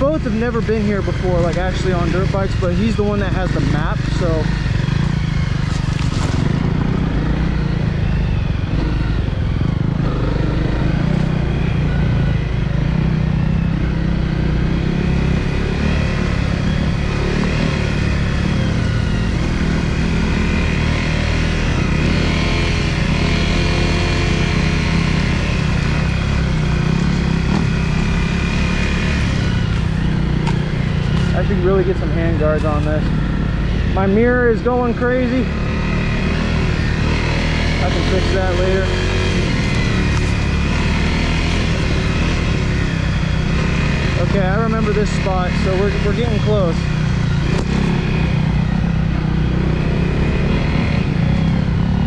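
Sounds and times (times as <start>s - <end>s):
motorcycle engine at low revs: 0.0s - 52.0s.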